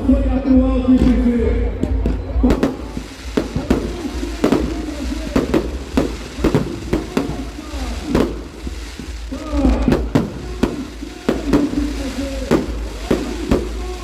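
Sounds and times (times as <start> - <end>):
fireworks bangs: 0.9 - 14.0.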